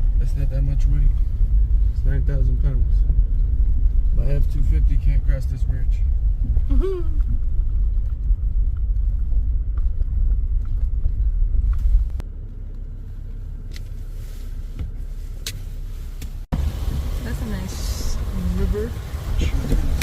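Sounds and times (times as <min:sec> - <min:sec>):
pickup engine and tyres rumbling: 0:00.0 - 0:20.0.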